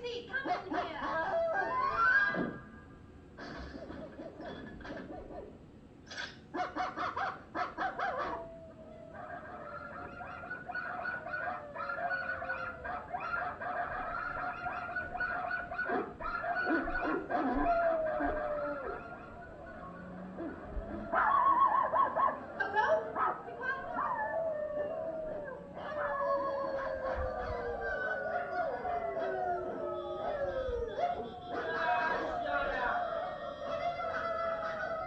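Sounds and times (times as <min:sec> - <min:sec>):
cartoon dogs barking: 0:00.3 - 0:02.7, 0:03.6 - 0:35.0
dogs and puppies yipping: 0:00.4 - 0:02.6, 0:06.1 - 0:35.0
falling dog howl: 0:01.1 - 0:02.8, 0:06.6 - 0:35.0.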